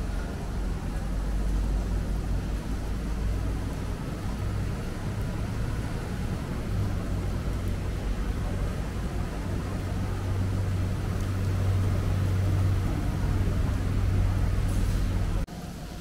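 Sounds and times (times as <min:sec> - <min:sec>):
train hum and rumble: 0:00.0 - 0:16.0.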